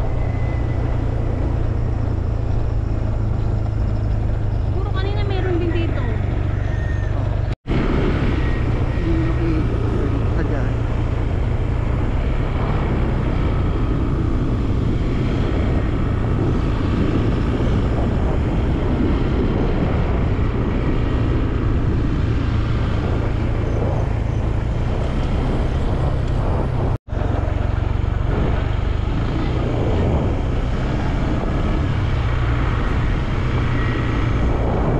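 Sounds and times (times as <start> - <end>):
motorcycle engine rumble: 0.0 - 34.9
wind rush on microphone: 0.0 - 34.9.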